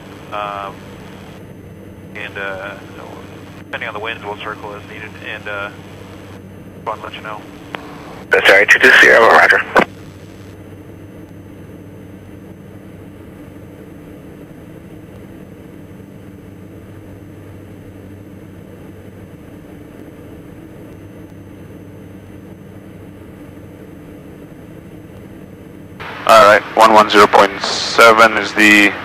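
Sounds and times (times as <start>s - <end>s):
aircraft engines droning in cockpit: 0.0s - 29.0s.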